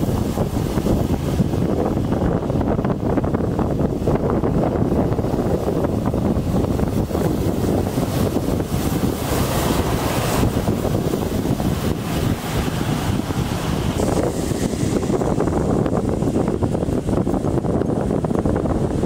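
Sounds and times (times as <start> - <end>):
rain hissing: 0.0 - 19.0
wind buffeting microphone: 0.0 - 19.0.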